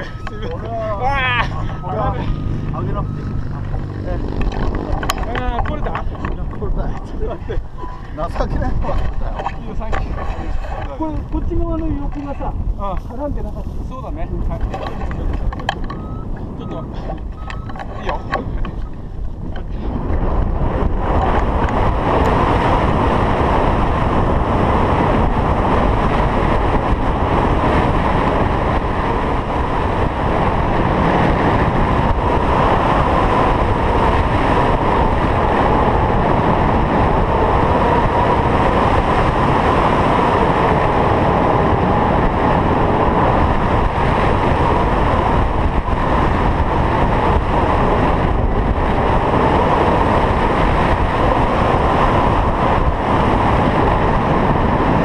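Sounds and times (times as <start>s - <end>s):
wind rushing over camera: 0.0s - 55.0s.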